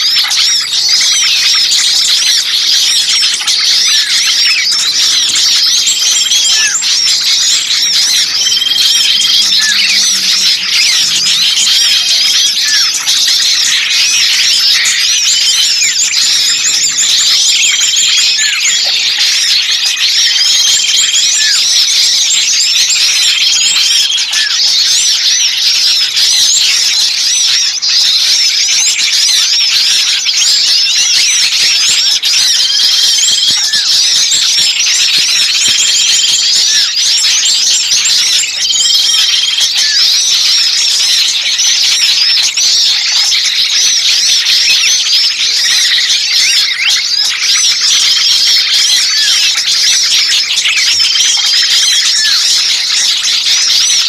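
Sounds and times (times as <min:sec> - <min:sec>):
small birds chattering and chirping: 0:00.0 - 0:54.0.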